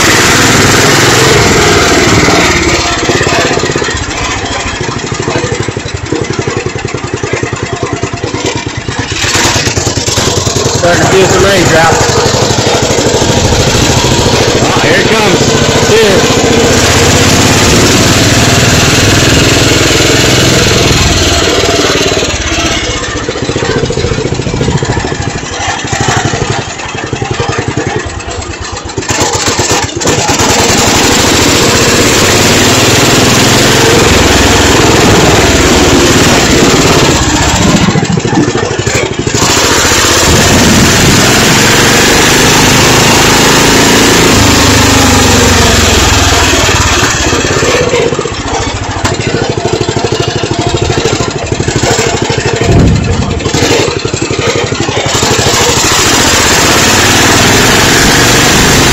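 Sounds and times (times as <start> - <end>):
lawn tractor engine running: 0.0 - 58.9.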